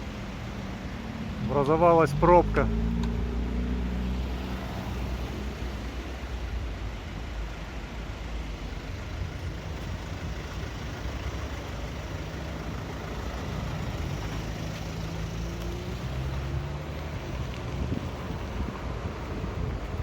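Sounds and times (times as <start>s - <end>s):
road rumble: 0.0s - 20.0s
vehicle engine running: 3.9s - 20.0s.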